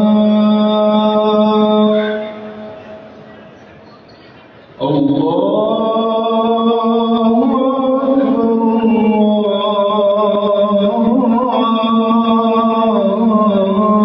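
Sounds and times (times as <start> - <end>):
man chanting: 0.0 - 2.7, 4.8 - 14.0.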